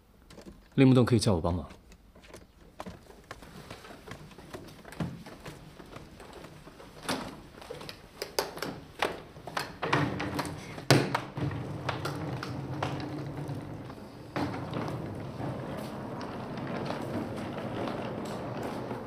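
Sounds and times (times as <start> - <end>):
suitcase bumping down stone stairs: 1.6 - 19.0.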